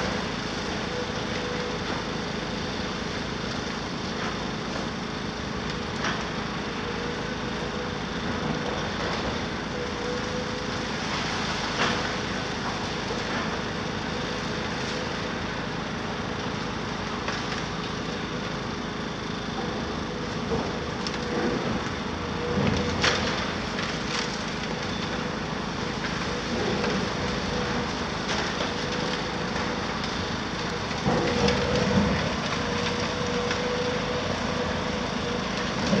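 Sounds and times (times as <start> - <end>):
excavator engine droning: 0.0 - 36.0.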